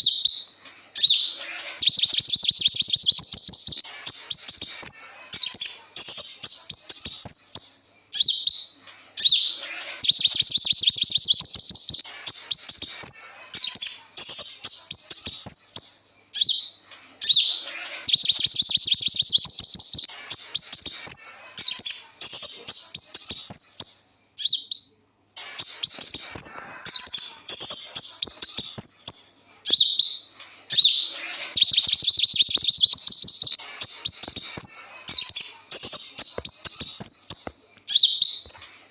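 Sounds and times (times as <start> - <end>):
bird twittering song: 0.0 - 38.7.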